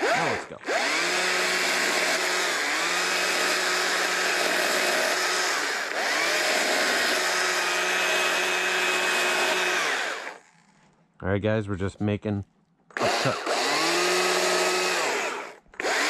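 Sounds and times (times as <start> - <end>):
chainsaw running at high revs: 0.0 - 10.4, 13.0 - 16.0.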